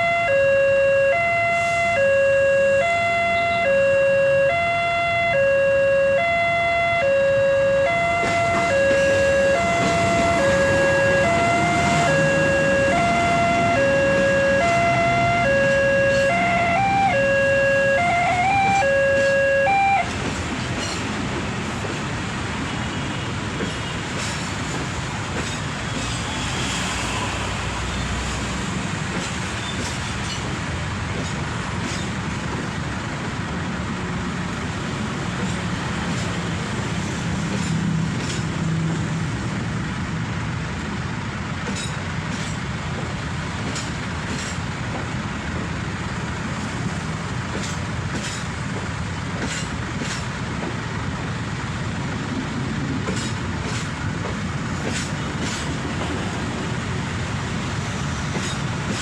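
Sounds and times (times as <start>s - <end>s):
train rumbling past: 1.1s - 59.0s.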